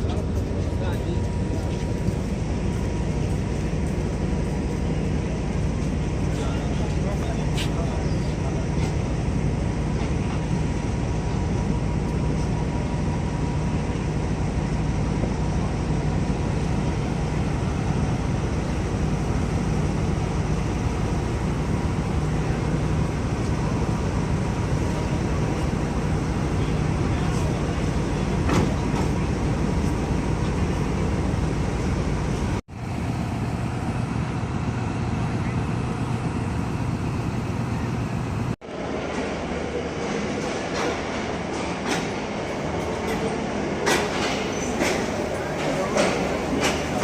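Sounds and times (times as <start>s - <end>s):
train wheels rumbling on track: 0.0s - 47.0s.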